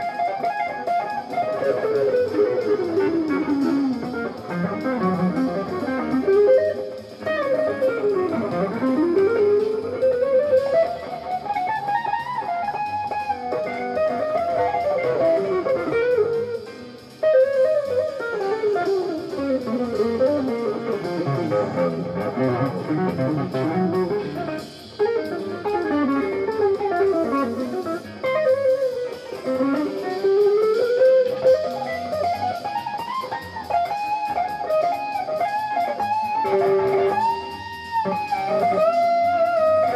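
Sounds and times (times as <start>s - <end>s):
electric guitar jazz fusion runs: 0.0s - 39.9s.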